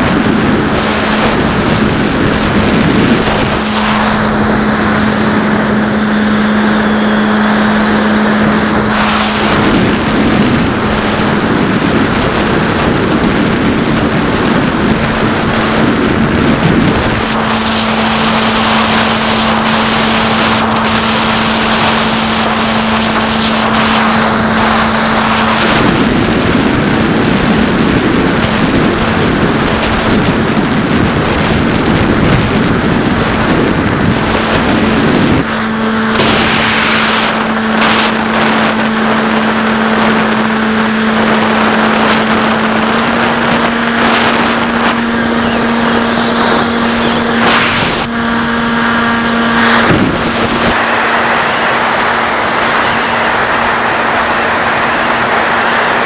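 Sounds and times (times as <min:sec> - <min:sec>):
electric motor propeller droning: 0:00.0 - 0:56.0
wind rushing: 0:00.0 - 0:56.0.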